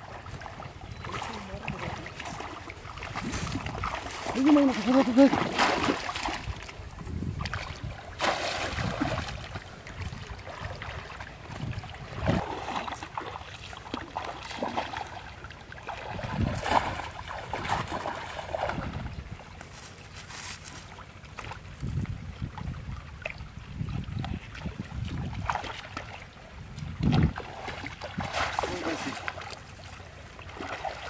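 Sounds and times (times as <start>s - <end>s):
stream water splashing: 0.0s - 31.0s.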